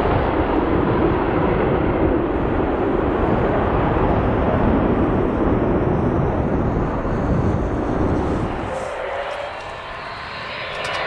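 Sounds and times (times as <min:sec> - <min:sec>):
jet in afterburner: 0:00.0 - 0:11.0.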